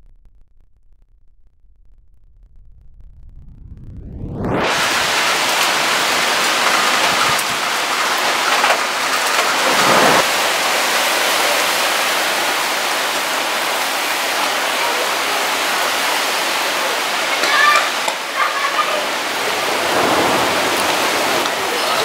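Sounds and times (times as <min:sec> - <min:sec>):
heavy rain pouring: 0:04.4 - 0:22.0.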